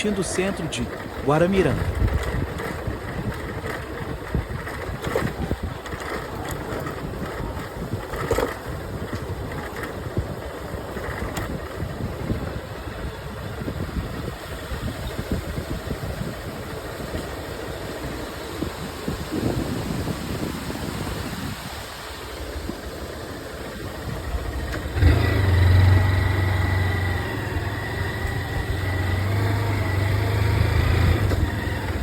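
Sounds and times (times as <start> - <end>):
motorcycle engine rumbling: 0.0 - 17.0, 22.3 - 32.0.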